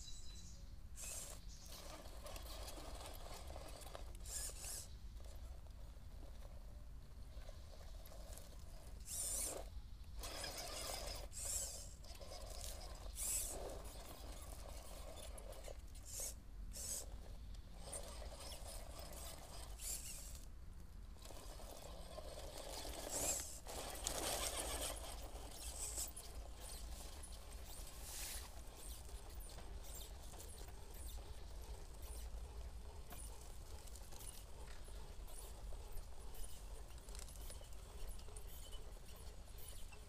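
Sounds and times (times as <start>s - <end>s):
electric motor whirring: 1.0s - 4.9s, 9.0s - 17.2s, 17.8s - 20.5s, 21.2s - 40.0s.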